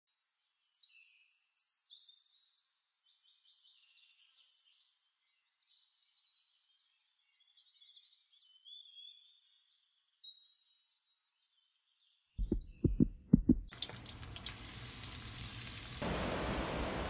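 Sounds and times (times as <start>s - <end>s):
faint birdsong: 0.1s - 17.0s.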